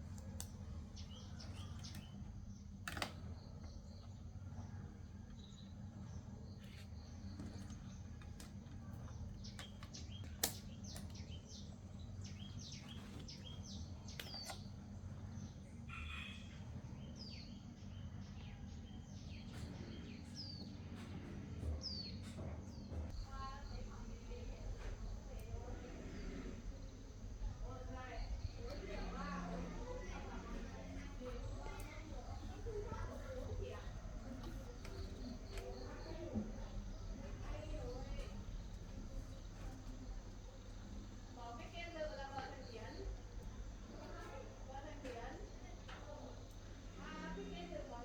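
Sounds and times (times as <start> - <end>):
small birds chirping: 0.0 - 48.0
steady low hum: 0.0 - 48.0.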